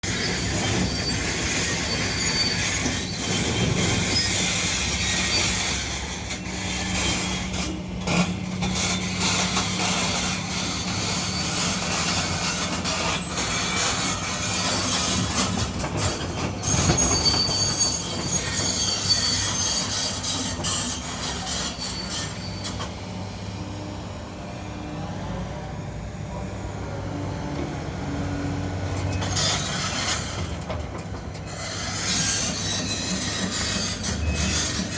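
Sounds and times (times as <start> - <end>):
metallic squealing and scraping: 0.0 - 23.4, 29.0 - 34.9.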